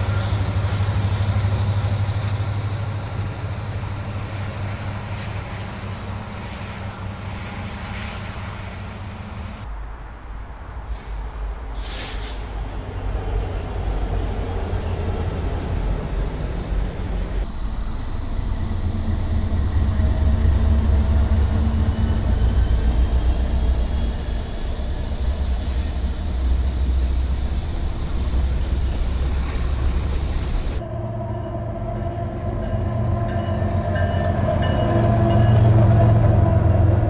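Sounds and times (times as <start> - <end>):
freight train passing: 0.0 - 37.0.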